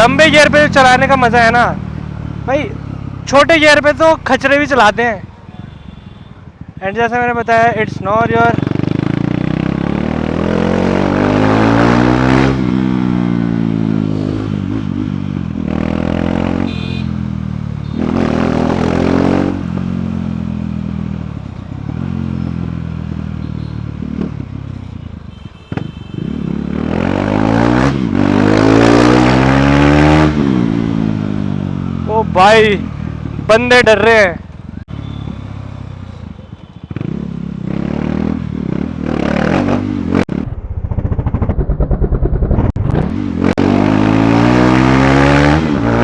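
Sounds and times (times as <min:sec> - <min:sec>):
motorcycle engine revving: 0:00.0 - 0:05.3, 0:06.6 - 0:46.0.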